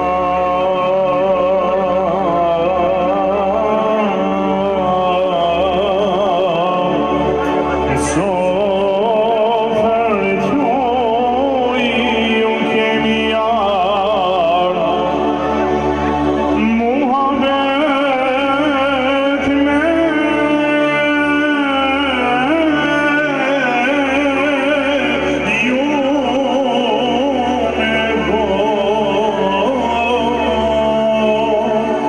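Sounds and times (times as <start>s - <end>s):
person singing with vibrato: 0.0s - 32.0s.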